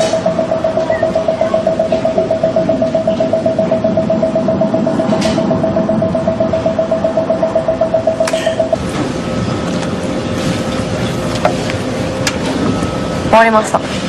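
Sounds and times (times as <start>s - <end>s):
pulsing steady tone: 0.0s - 13.8s.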